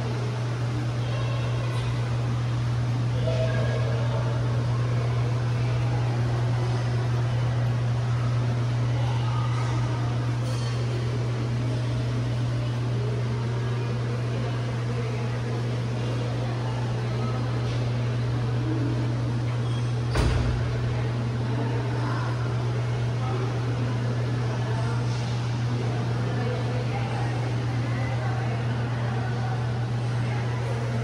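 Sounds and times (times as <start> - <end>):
low machinery hum: 0.0 - 31.0.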